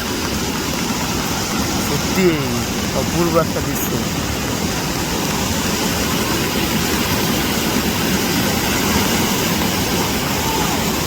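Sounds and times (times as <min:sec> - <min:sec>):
sea surf breaking: 0:00.9 - 0:11.0.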